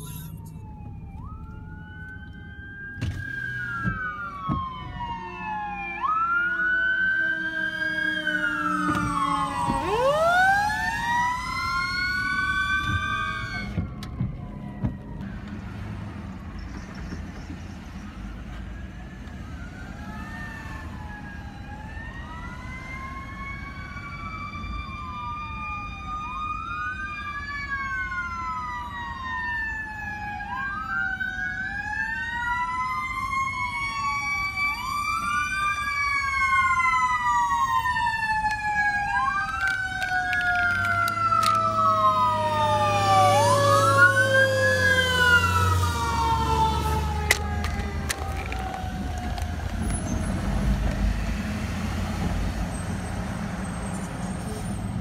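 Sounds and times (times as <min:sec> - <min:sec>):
emergency sirens wailing: 0:00.0 - 0:55.0.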